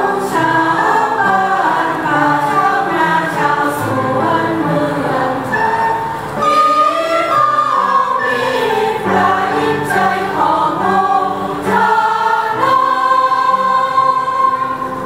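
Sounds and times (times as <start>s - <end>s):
choir-like voices: 0.0s - 15.0s
keyboard accompaniment: 0.0s - 15.0s
recorder melody: 0.5s - 15.0s.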